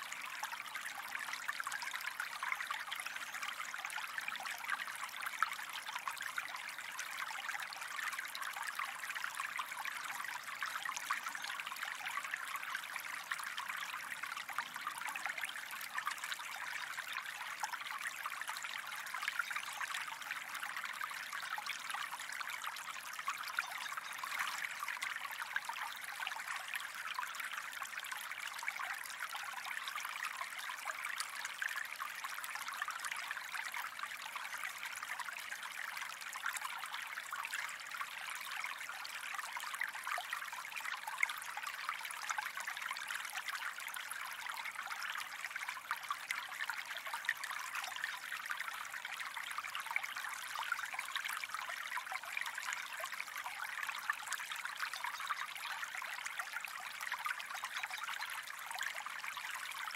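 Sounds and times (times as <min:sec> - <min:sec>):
stream trickling and babbling: 0:00.0 - 0:59.9.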